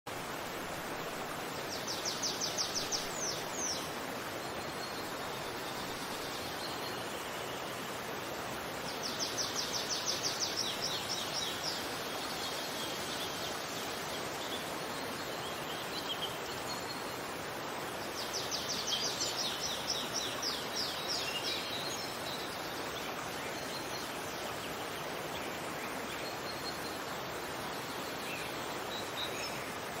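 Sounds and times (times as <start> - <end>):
running water rushing: 0.1 - 30.0.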